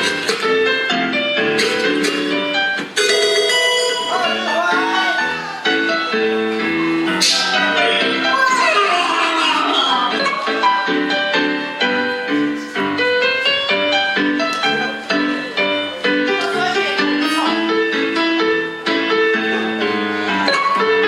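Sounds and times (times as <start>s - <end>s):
piano playing quick runs: 0.0s - 21.0s.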